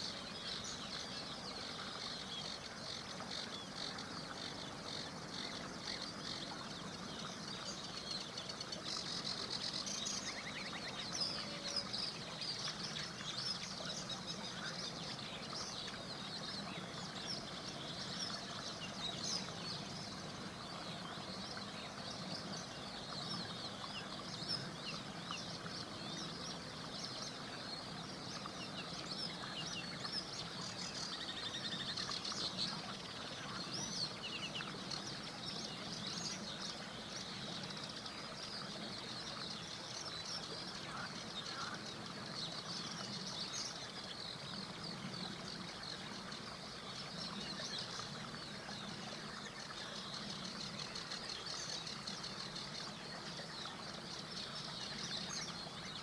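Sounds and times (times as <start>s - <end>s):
birds chirping and trilling: 0.0s - 56.0s
small river rushing: 0.0s - 56.0s.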